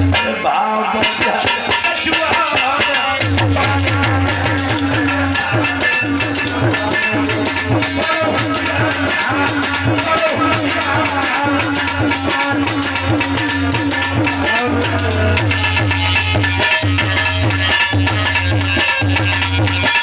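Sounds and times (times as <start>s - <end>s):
rattling percussion: 0.0s - 20.0s
drum beat: 1.0s - 20.0s.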